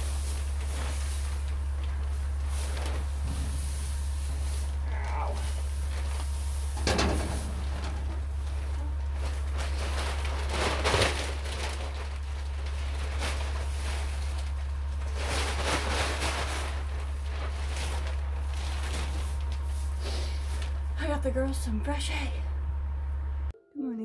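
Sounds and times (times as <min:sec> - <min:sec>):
dry hay rustling: 0:00.0 - 0:21.9
steady low hum: 0:00.0 - 0:24.0.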